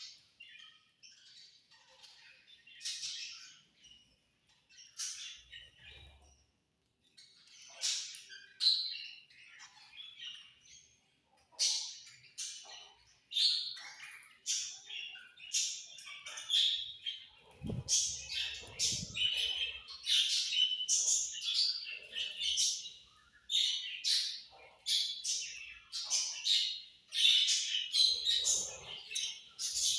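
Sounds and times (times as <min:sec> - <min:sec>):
budgerigars chirping and chattering: 0:00.0 - 0:29.9.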